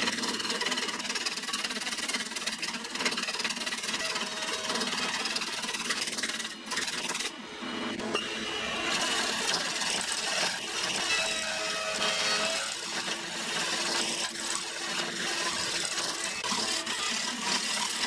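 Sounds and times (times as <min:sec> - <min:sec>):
power tool whirring on wood: 0:00.0 - 0:18.0.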